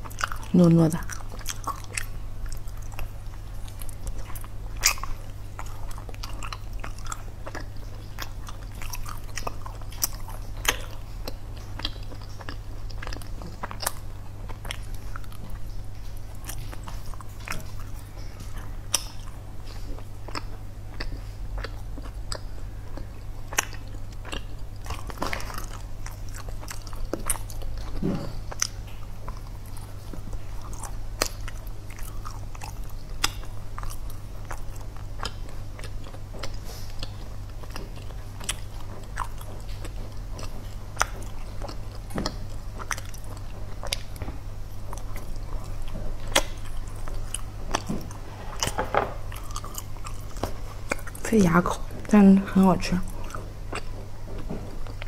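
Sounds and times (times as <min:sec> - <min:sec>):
close biting and chewing: 0:00.0 - 0:52.1, 0:53.0 - 0:55.0
low electrical hum: 0:00.0 - 0:55.0.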